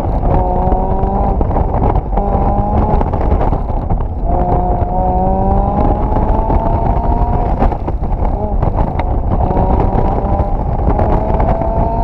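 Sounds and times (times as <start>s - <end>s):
car engine revving: 0.0s - 12.0s
wind and road rush: 0.0s - 12.0s.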